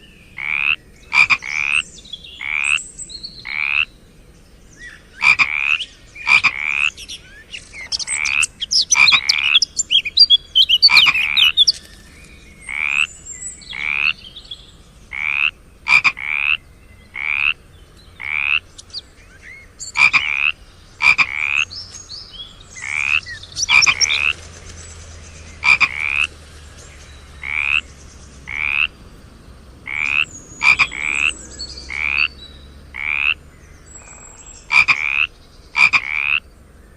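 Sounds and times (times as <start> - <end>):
frogs croaking: 0.0 - 4.2, 4.8 - 36.9.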